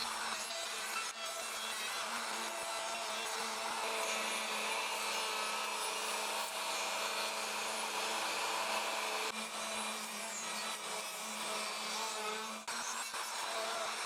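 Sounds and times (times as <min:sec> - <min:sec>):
power tool motor whirring: 0:00.0 - 0:14.0.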